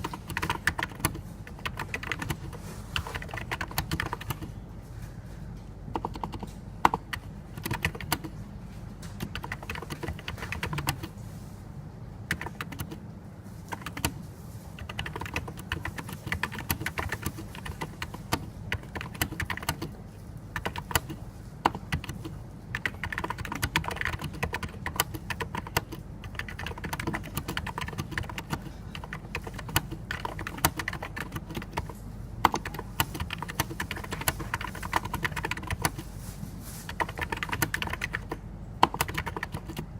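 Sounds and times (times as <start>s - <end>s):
keyboard typing: 0.0s - 4.6s, 5.9s - 8.4s, 9.0s - 11.2s, 12.2s - 14.2s, 14.8s - 36.1s, 36.9s - 39.9s.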